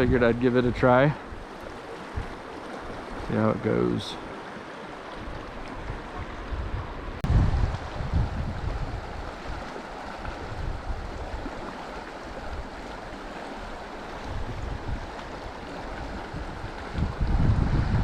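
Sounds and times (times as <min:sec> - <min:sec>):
mountain stream flowing: 0:00.0 - 0:18.0
wind buffeting microphone: 0:00.0 - 0:18.0.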